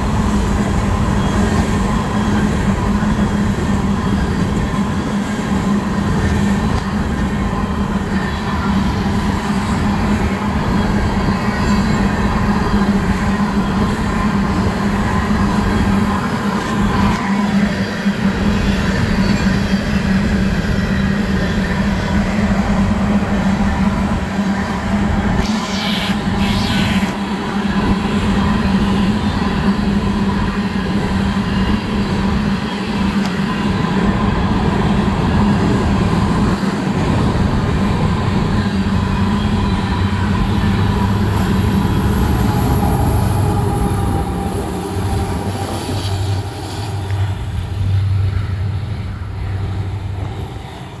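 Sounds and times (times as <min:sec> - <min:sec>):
high wheel squeal: 0:00.0 - 0:34.8, 0:35.4 - 0:48.5
train wheels rumbling on rail: 0:00.0 - 0:51.0.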